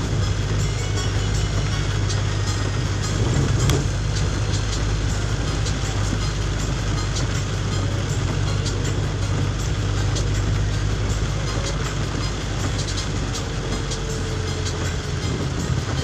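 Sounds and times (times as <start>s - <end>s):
vehicle rumble from inside: 0.0s - 16.0s.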